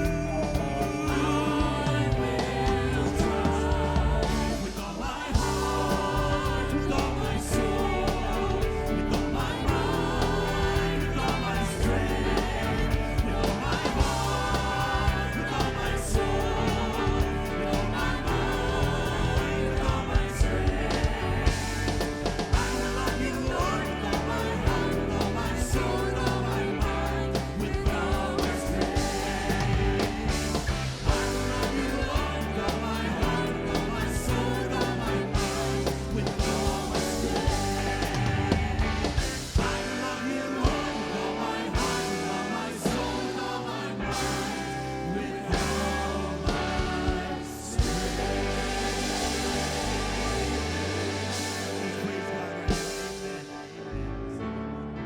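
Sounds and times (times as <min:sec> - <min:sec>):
worship band and singers: 0:00.0 - 0:55.0.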